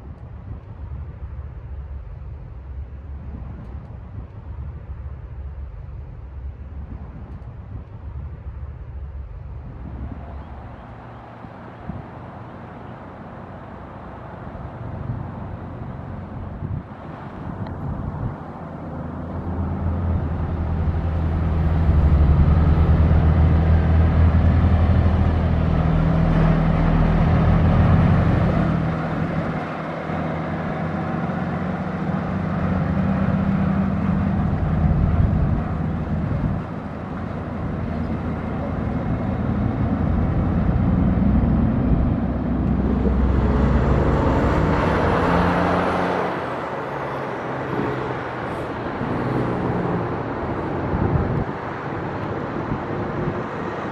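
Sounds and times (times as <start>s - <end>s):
diesel truck engine drone: 0.0s - 53.9s
rush of noise: 0.0s - 53.9s.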